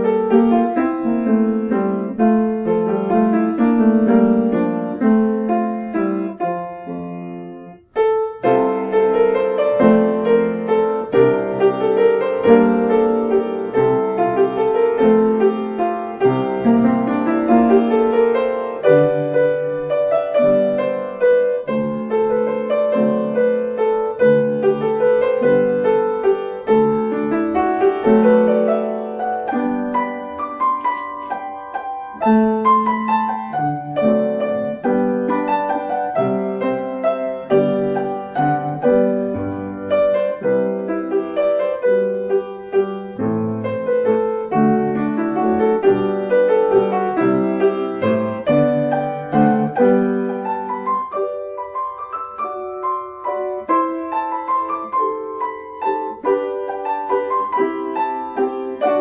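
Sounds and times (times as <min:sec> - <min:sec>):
slow gentle solo piano: 0:00.0 - 0:59.0.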